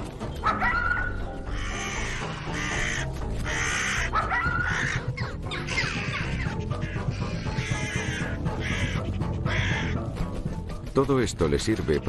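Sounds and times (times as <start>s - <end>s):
background music: 0.0s - 12.0s
crows cawing: 0.4s - 10.2s.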